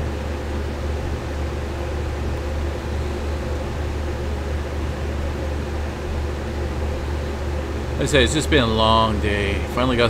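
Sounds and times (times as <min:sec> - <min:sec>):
fan hum with hiss: 0:00.0 - 0:10.0.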